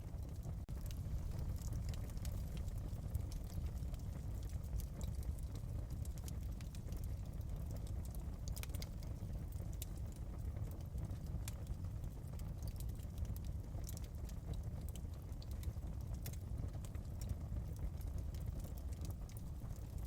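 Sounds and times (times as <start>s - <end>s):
fireplace crackling and popping: 0.0s - 20.0s
low rumble of burning fire: 0.0s - 20.0s.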